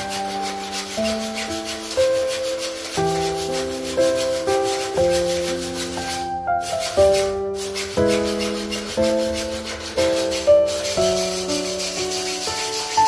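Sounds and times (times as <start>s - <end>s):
background music with held notes: 0.0s - 13.0s
hacksaw cutting aluminium: 0.0s - 13.0s.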